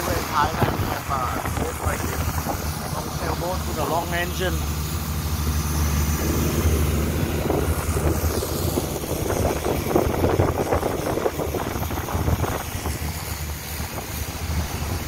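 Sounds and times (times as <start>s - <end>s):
boat engine droning: 0.0s - 15.0s
water rushing along hull: 0.0s - 15.0s.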